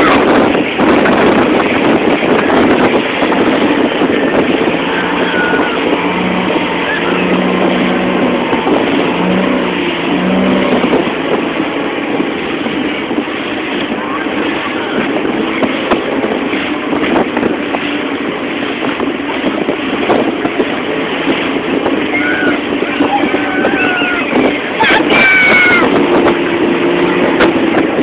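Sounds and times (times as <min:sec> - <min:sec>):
churning wake: 0:00.0 - 0:28.0
motorboat motor running: 0:00.0 - 0:28.0
wind on microphone: 0:00.0 - 0:28.0.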